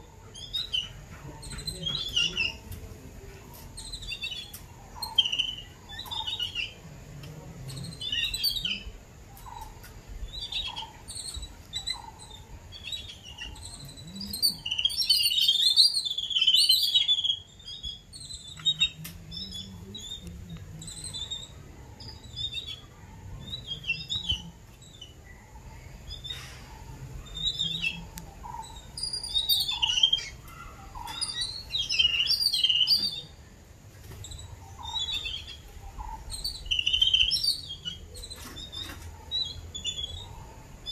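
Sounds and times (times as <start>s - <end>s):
birds chirping and chattering: 0.0s - 40.9s.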